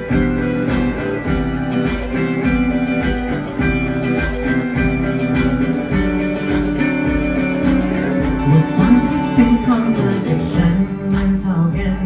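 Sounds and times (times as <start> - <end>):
drum kit beat: 0.0 - 12.0
electric guitars: 0.0 - 12.0.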